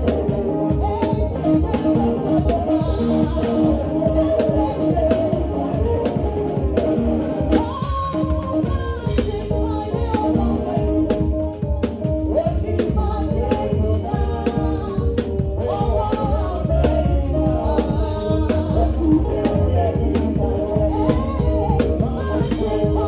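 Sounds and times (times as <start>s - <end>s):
group singing: 0.0s - 11.4s, 12.2s - 23.0s
drum kit with cymbals: 0.0s - 23.0s
electric bass: 0.0s - 23.0s.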